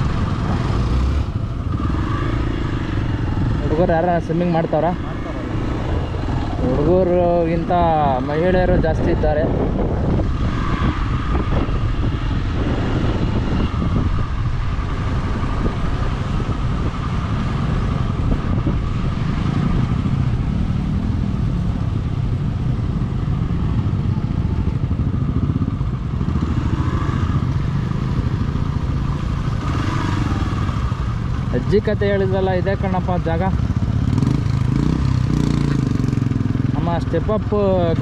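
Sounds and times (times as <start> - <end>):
motorcycle engine at low revs: 0.0 - 38.0.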